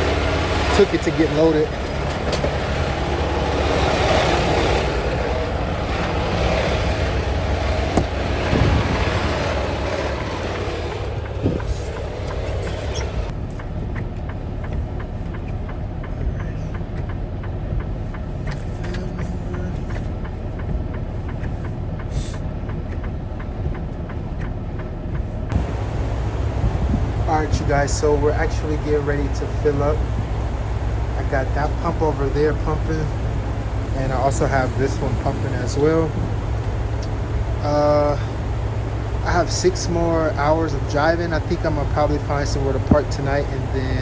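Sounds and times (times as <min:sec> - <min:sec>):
faint regular ticking: 0:00.0 - 0:44.0
truck engine running: 0:00.0 - 0:44.0.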